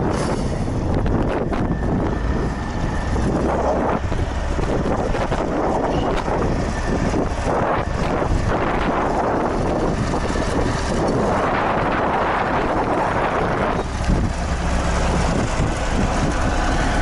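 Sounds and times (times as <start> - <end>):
tractor diesel engine running: 0.0 - 17.0
wind buffeting microphone: 0.0 - 17.0.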